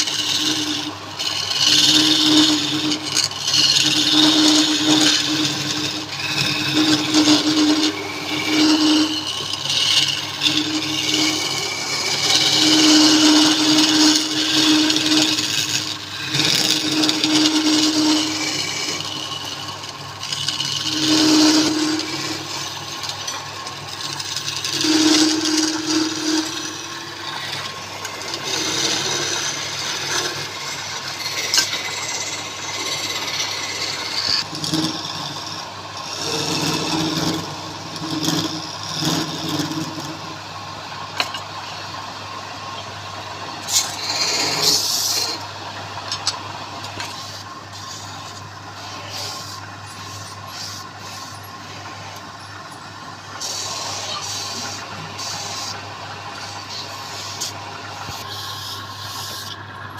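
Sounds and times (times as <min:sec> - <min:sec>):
turning tool scraping wood: 0:00.0 - 0:59.6
wood lathe running: 0:00.0 - 0:59.9.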